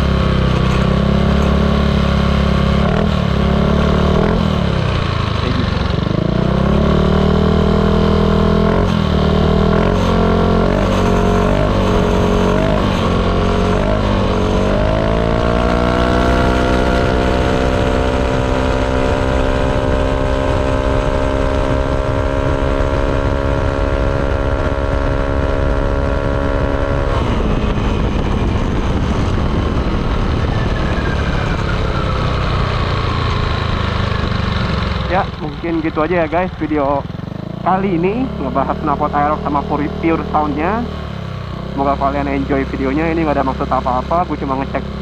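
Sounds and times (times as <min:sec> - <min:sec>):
scooter engine revving: 0:00.0 - 0:45.0.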